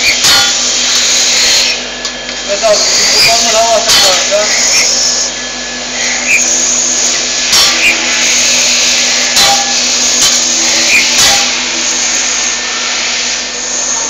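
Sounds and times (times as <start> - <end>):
lathe mechanical hum: 0.0 - 14.0.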